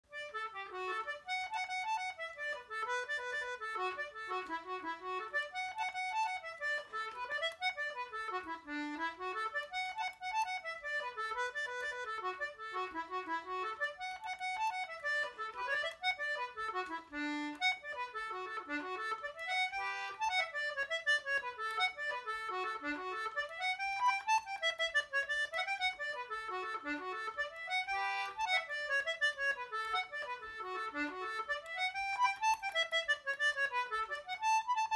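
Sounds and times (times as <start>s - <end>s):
accordion playing a jig: 0.0s - 34.9s.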